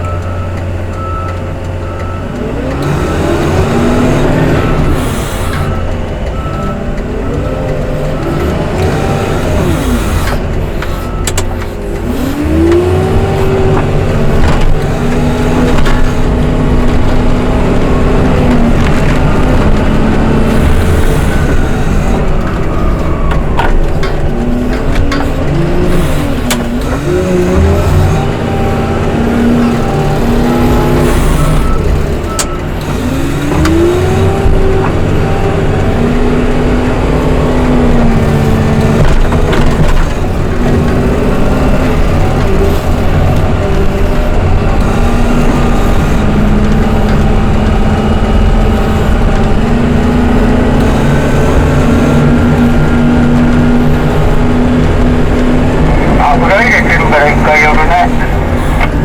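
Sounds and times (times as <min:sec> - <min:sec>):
snow-clearing machine engine revving: 0:00.0 - 0:59.0.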